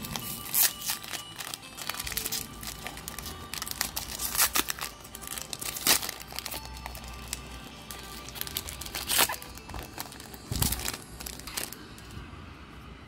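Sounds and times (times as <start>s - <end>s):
foil wrapper crinkling and tearing: 0.0s - 12.1s
faint background music: 0.0s - 13.0s.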